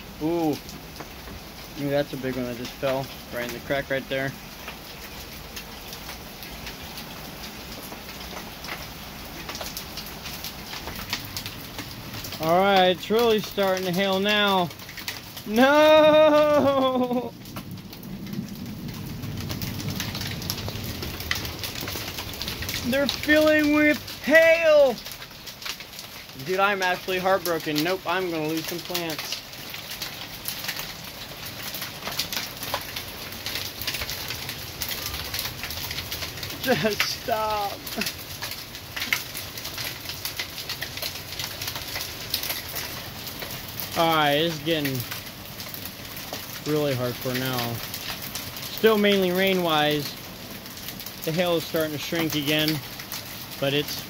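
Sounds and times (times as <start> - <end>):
hailstones ticking: 0.0 - 54.0
steady rainfall: 0.0 - 54.0.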